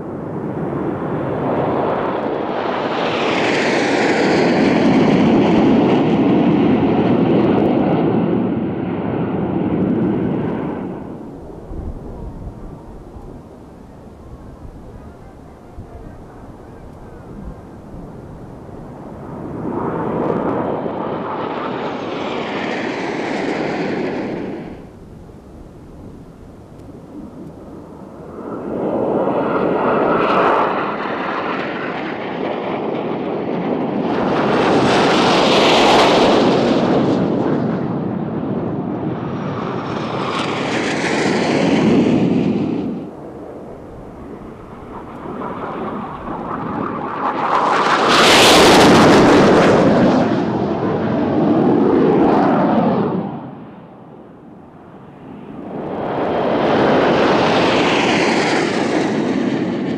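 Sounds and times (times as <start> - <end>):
jet aircraft roar: 0.0 - 59.9.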